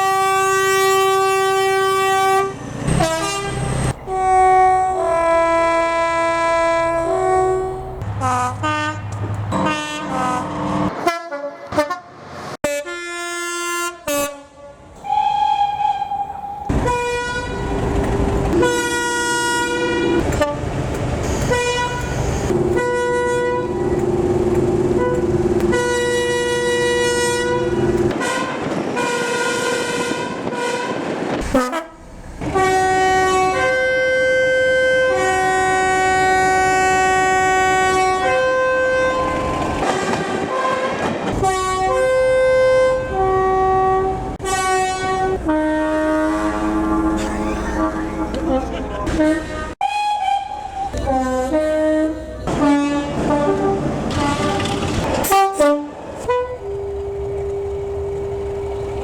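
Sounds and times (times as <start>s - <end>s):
two-tone train horns: 0.0s - 24.0s, 24.8s - 59.0s.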